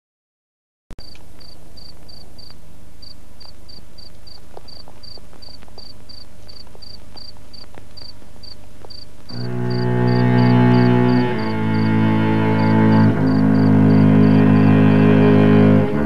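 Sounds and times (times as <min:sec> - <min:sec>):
cricket chirping: 0:01.0 - 0:16.0.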